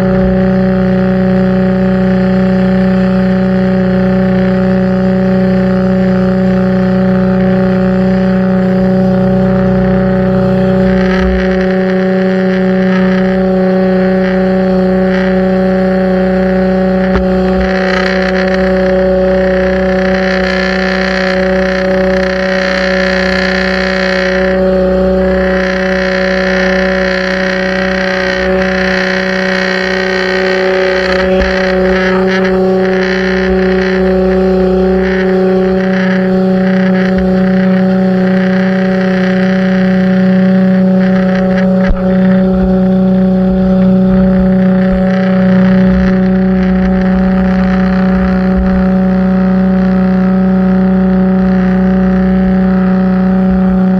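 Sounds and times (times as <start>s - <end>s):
pressure washer machine hum: 0.0s - 53.9s.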